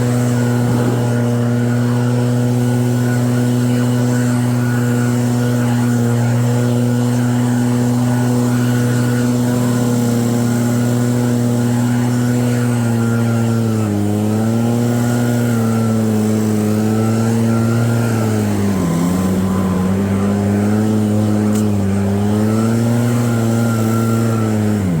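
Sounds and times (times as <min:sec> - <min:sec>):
snow blower engine running: 0:00.0 - 0:25.0.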